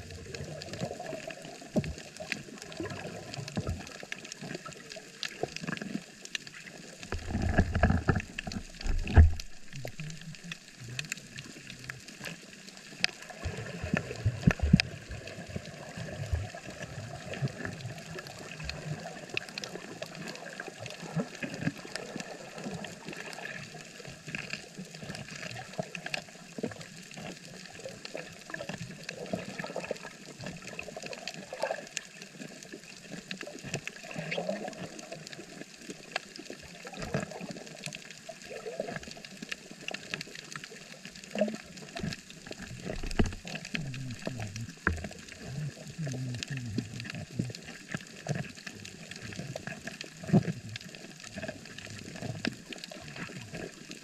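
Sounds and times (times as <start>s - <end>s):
underwater water noise: 0.0s - 54.0s
sharp clicks and crackles: 0.2s - 54.0s.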